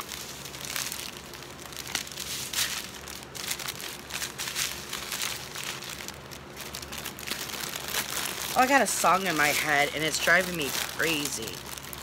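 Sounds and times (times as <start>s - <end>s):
cellophane crinkling: 0.0s - 12.0s.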